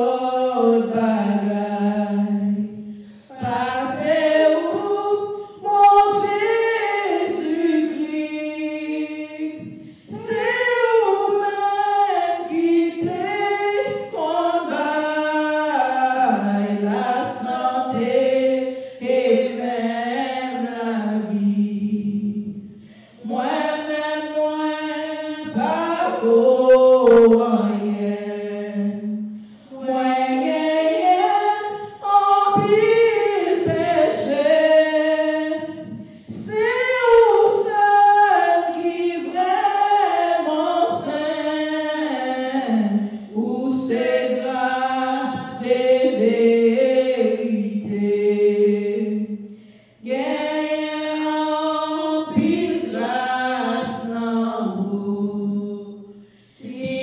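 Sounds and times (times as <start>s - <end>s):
woman singing a hymn: 0.0s - 57.0s.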